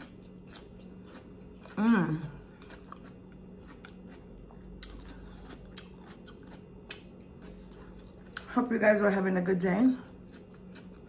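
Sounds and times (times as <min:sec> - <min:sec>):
quiet chewing: 0:00.0 - 0:08.6, 0:10.0 - 0:11.0.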